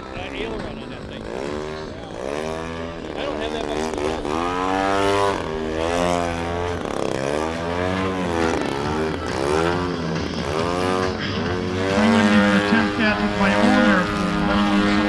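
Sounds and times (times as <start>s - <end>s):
model plane engine revving: 0.0s - 15.0s.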